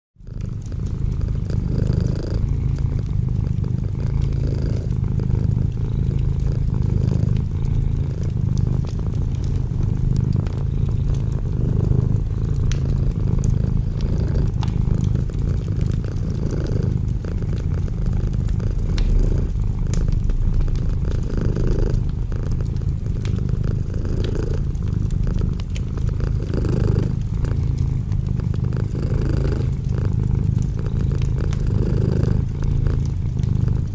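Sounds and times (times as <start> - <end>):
cat purring: 0.2 - 33.9.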